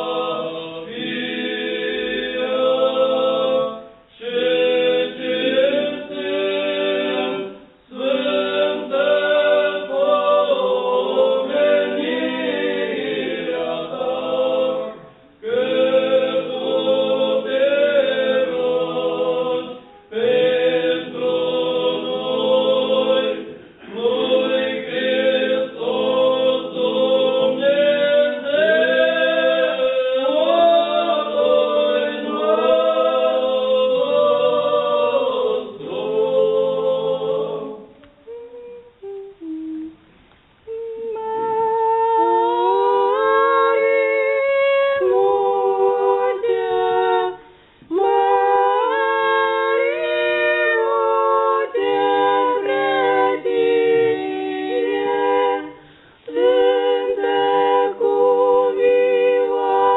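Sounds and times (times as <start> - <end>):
choir singing chant: 0.0 - 39.5, 40.7 - 59.9.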